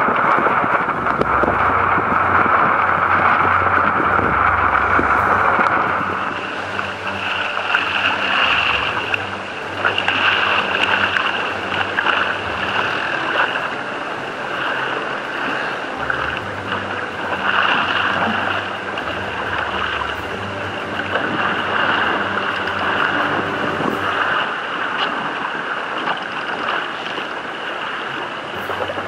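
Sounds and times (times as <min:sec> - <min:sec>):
wind buffeting microphone: 0:00.0 - 0:26.0
water splashing against hull: 0:00.0 - 0:29.0.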